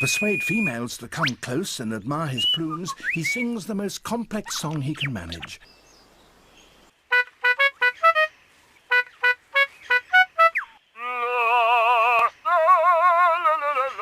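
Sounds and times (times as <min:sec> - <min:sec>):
lyrebird singing: 0:00.0 - 0:06.9, 0:07.5 - 0:14.0.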